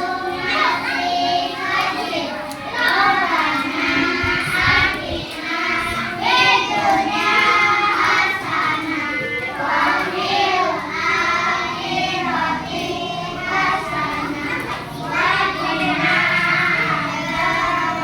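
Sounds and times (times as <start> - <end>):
children singing: 0.0 - 18.0.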